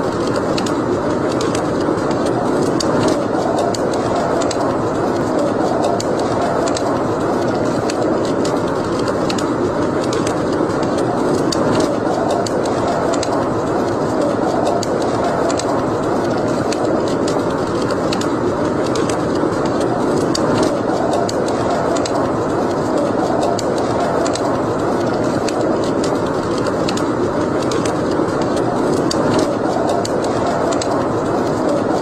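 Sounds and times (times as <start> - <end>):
fire crackles and pops: 0.0 - 32.0
wood fire burning: 0.0 - 32.0.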